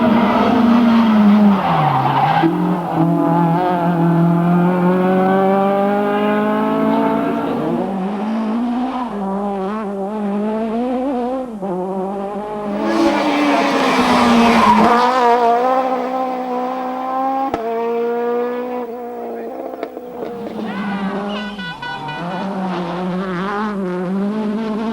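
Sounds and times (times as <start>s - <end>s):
rally car engine revving: 0.0s - 24.9s
rush of tyre noise: 0.0s - 24.9s.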